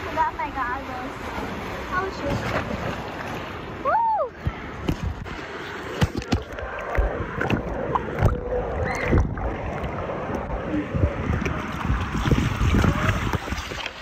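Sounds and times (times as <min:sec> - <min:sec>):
pool water splashing: 0:00.0 - 0:14.0.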